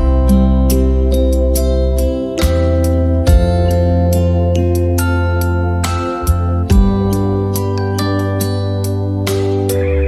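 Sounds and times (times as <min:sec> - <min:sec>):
instrumental music with bass: 0:00.0 - 0:10.0.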